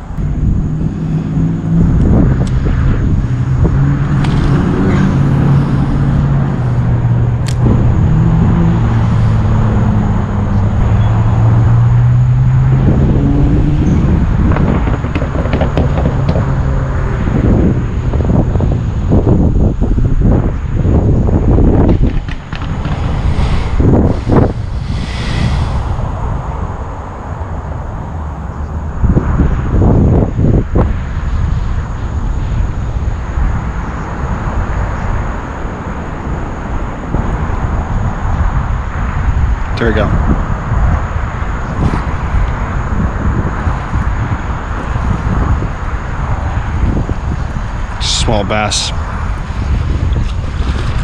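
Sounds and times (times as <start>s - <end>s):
passing vehicle hum: 0.0s - 51.0s
wind buffeting microphone: 0.0s - 51.0s.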